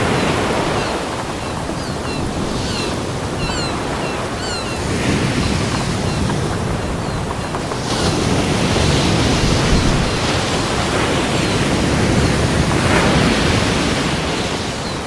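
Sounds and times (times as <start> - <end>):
ocean waves breaking on a beach: 0.0 - 15.0.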